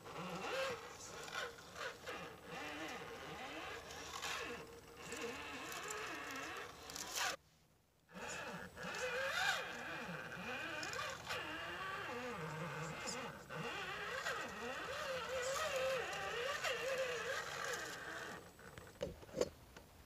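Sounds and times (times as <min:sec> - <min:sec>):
electric motor and gears whining: 0:00.0 - 0:07.4, 0:08.1 - 0:19.4.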